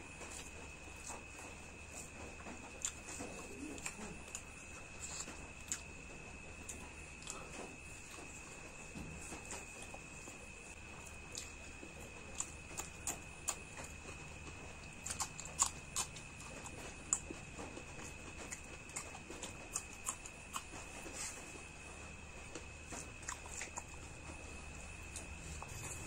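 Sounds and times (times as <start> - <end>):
faint high whine: 0.0 - 26.0
person chewing food: 0.0 - 26.0.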